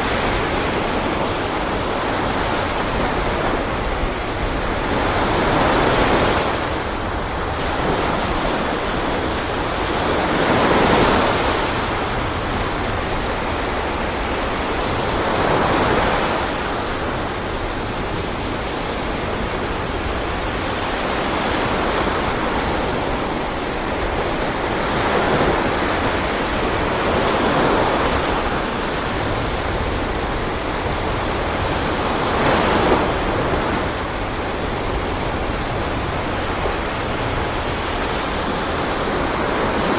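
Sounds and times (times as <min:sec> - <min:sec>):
sea waves rushing: 0:00.0 - 0:39.9.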